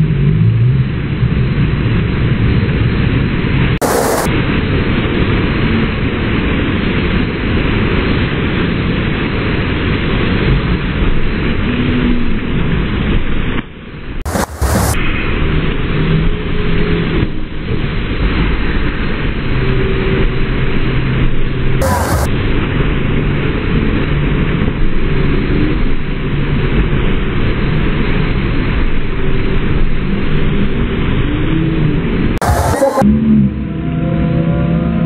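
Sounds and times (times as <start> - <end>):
rushing water of standing wave: 3.1 - 13.6, 14.2 - 33.0.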